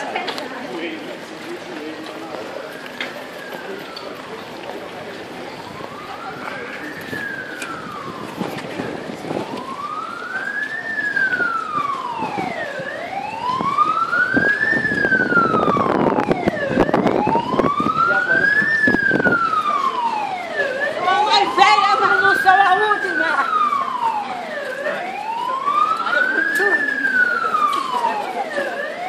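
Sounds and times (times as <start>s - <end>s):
vehicle siren wailing: 0.9s - 29.0s.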